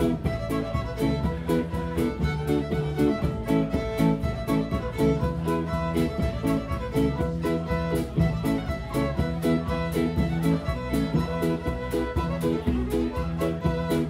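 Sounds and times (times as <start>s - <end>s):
bowed fiddle melody: 0.0s - 14.0s
drum kit cymbal beat: 0.0s - 14.0s
electric guitars: 0.0s - 14.0s.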